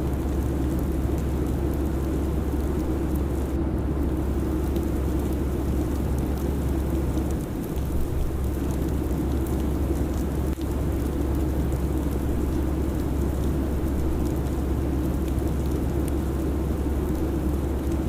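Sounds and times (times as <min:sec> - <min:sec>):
faint crackle: 0:00.0 - 0:18.0.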